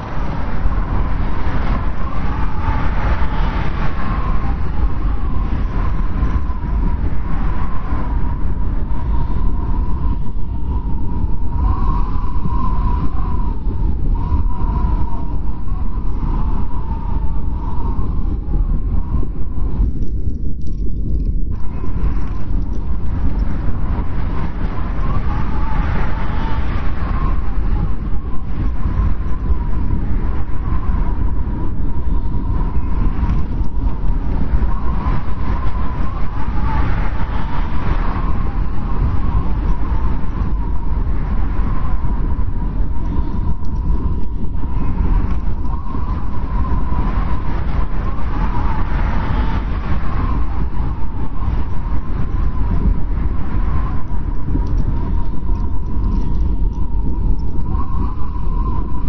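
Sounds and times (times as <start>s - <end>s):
snowstorm wind rumbling: 0.0s - 59.0s
wind whistling: 0.0s - 59.0s.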